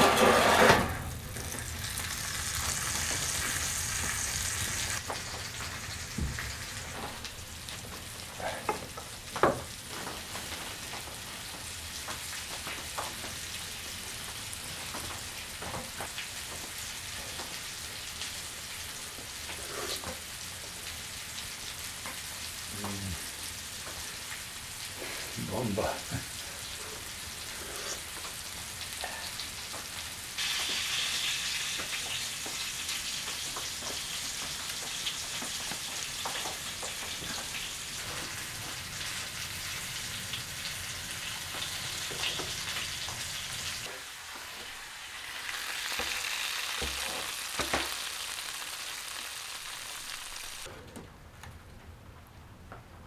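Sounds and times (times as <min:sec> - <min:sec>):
food sizzling in a hot pan: 0:00.0 - 0:08.6, 0:09.2 - 0:50.7.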